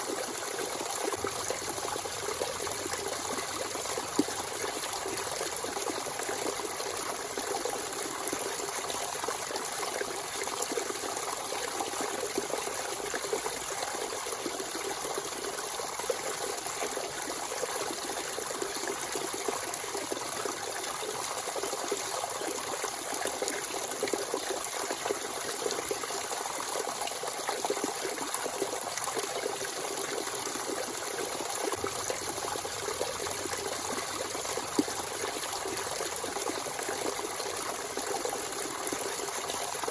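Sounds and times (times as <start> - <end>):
spring water running and splashing: 0.0 - 39.9.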